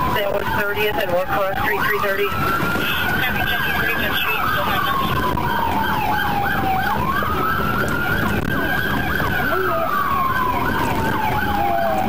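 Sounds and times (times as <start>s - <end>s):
siren wailing: 0.0s - 12.0s
siren yelping: 0.0s - 12.0s
vehicle rumble: 0.0s - 12.0s.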